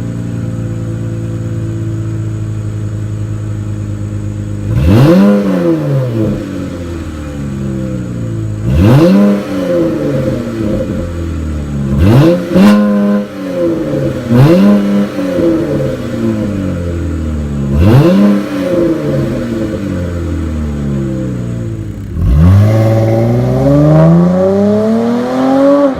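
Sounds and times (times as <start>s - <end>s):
car engine idling with throttle blips: 0.0s - 25.9s.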